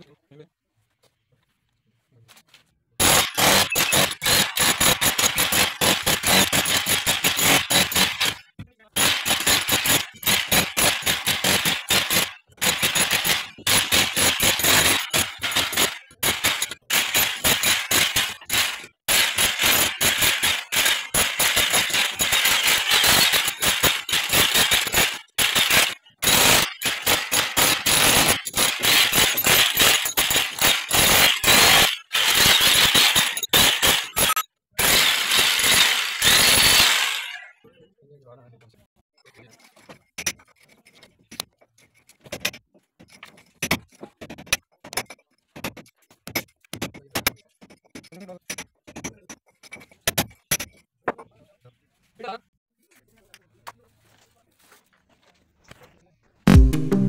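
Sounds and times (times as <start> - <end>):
demolition hammer chiselling brick: 3.0 - 37.4, 39.4 - 51.3.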